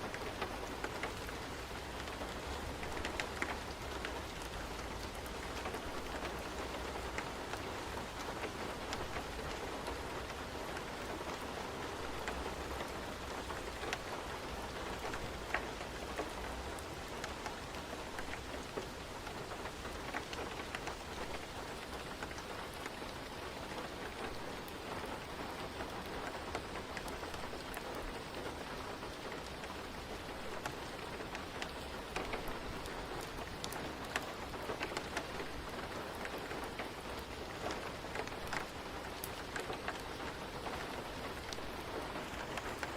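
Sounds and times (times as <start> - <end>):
rain hissing: 0.0 - 42.9
small sharp rain ticks: 0.0 - 42.9.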